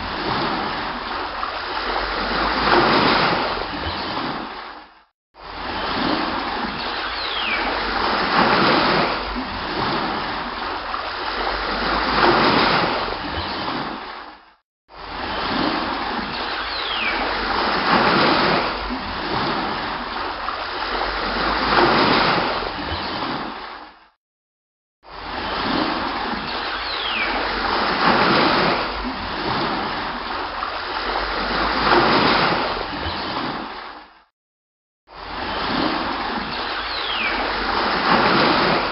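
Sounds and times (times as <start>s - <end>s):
sea water splashing: 0.0s - 24.1s, 25.0s - 34.3s, 35.1s - 38.9s.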